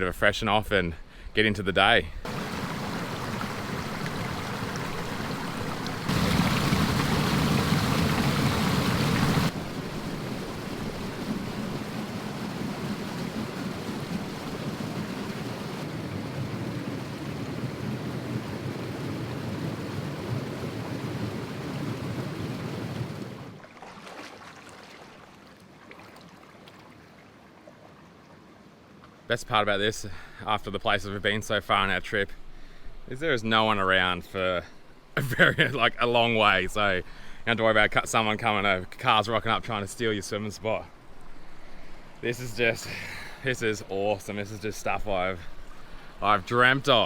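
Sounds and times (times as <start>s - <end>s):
flowing spring water: 2.2s - 47.0s.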